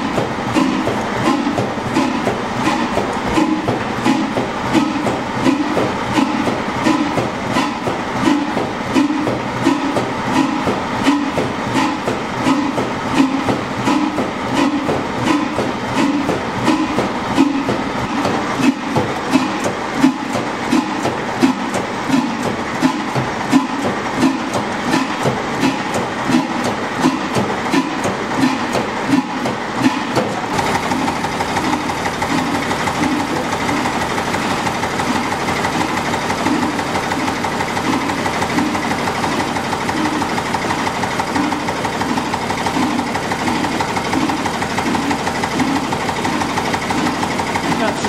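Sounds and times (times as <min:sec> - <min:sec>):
stationary engine fast clatter: 0:00.0 - 0:48.0
stationary engine heavy beat: 0:00.0 - 0:48.0.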